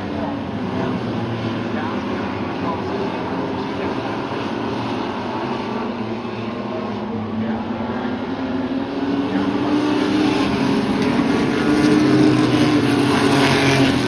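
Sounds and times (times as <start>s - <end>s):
racing truck engines running hard: 0.0s - 14.0s.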